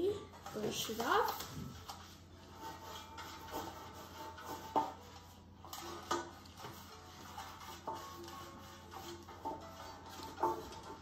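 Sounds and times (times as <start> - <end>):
brush rubbing metal pan: 0.0 - 11.0.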